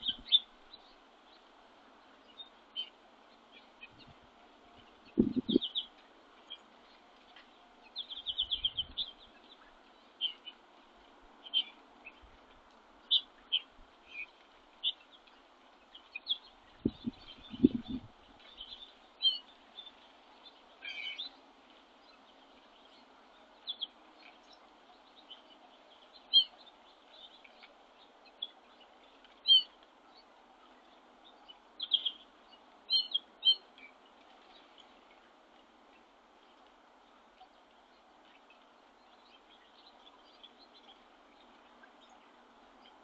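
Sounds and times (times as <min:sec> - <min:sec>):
small birds chirping: 0:00.0 - 0:04.2, 0:04.8 - 0:43.0
faint background hiss: 0:00.0 - 0:43.0.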